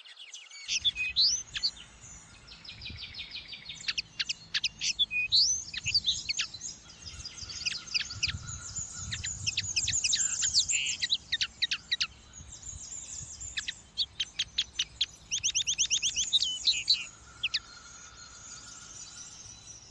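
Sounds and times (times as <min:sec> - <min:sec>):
finch singing: 0:00.1 - 0:19.9.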